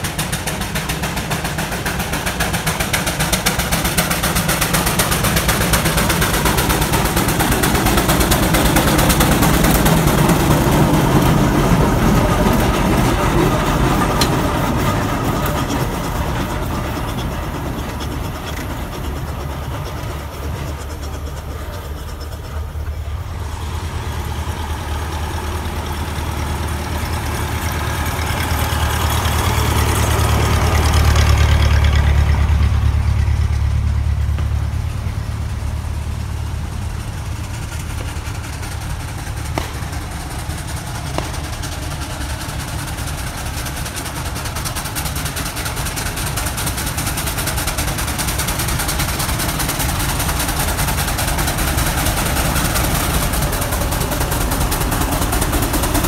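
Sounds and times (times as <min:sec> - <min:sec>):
heavy vehicle engines rumbling: 0:00.0 - 0:56.0
steam traction engine: 0:00.0 - 0:56.0.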